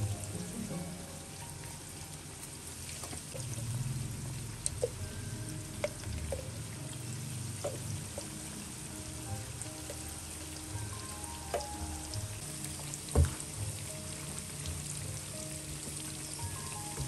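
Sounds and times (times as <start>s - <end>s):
vegetables sizzling in a wok: 0.0s - 17.0s.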